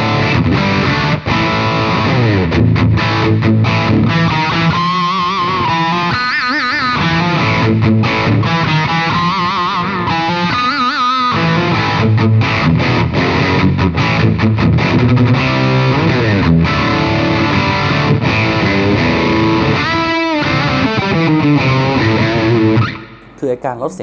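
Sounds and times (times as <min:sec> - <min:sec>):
distorted electric guitar riffing: 0:00.0 - 0:23.6.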